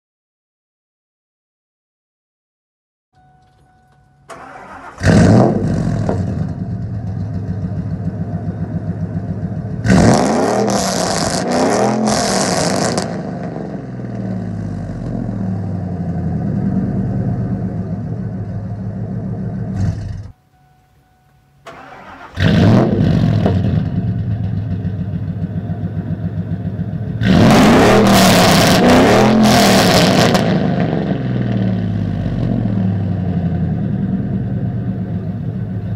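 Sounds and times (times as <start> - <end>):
truck engine idling and revving: 4.2 - 20.5, 21.7 - 35.9.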